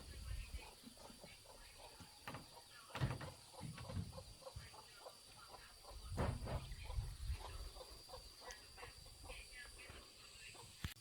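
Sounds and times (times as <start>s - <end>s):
chickens clucking: 0.0s - 10.9s.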